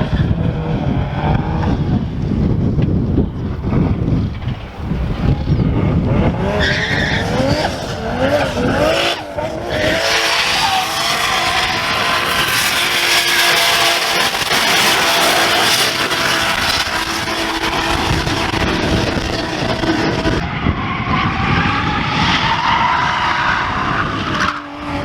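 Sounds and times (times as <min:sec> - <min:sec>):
car engine revving: 0:00.0 - 0:25.0
tires squealing: 0:04.4 - 0:25.0.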